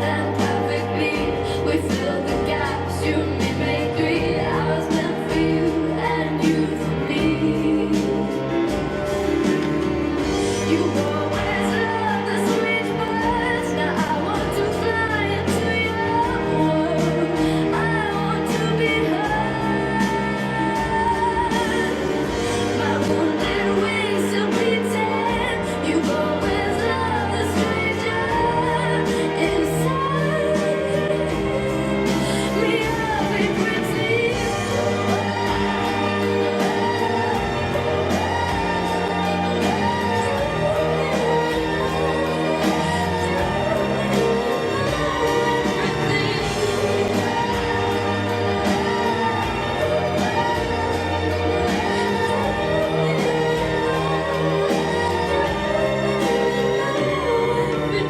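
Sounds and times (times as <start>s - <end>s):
sustained backing chords: 0.0s - 58.0s
woman singing a ballad: 0.0s - 58.0s.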